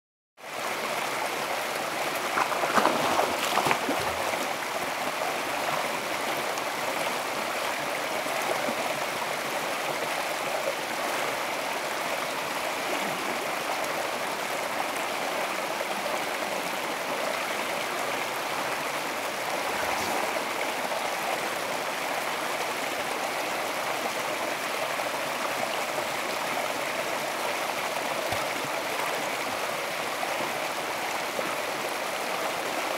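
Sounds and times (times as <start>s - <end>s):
stream rushing over rocks: 0.5s - 32.9s.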